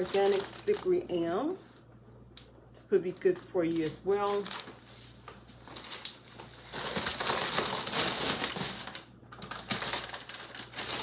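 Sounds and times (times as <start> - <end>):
crackling plastic and paper wrapping: 0.0 - 1.8, 3.1 - 11.0.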